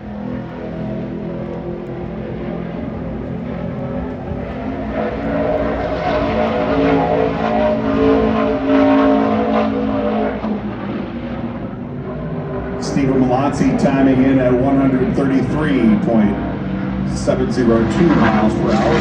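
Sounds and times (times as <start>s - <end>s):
race truck engine at full throttle: 0.0s - 19.0s.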